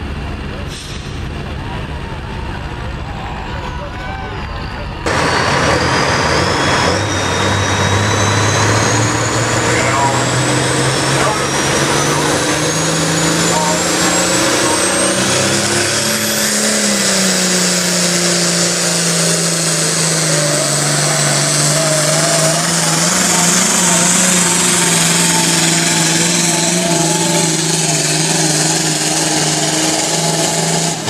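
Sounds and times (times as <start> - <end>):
tractor engine running flat out: 0.0 - 31.0
high whine: 4.2 - 31.0.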